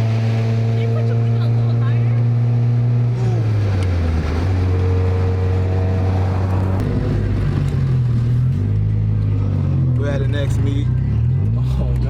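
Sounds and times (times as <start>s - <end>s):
car engine and exhaust droning: 0.0s - 12.0s.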